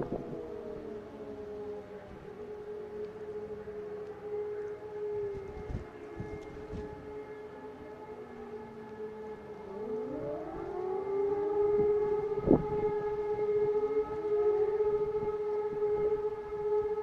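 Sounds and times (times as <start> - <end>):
sirens winding up: 0.0 - 17.0
steady siren tone: 0.0 - 17.0.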